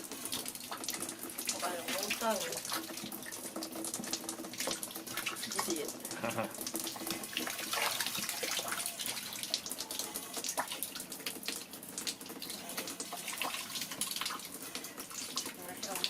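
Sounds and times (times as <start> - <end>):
water running from a tap: 0.0 - 16.0
water splashing: 0.0 - 16.0.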